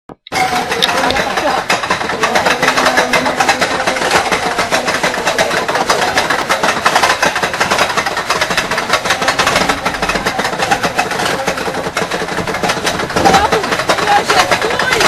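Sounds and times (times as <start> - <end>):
roller coaster rattling on track: 0.2 - 15.0.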